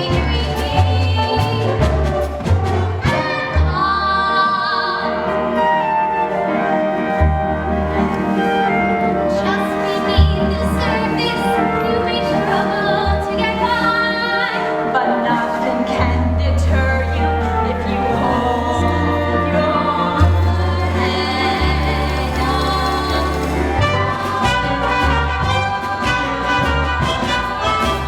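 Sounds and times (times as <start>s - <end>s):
instrumental accompaniment: 0.0s - 28.0s
singing with vibrato: 2.9s - 28.0s.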